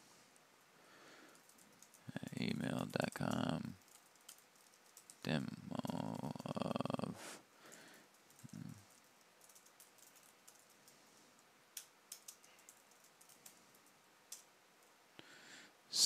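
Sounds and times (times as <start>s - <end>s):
faint keyboard typing: 0.3s - 7.0s, 7.6s - 15.0s.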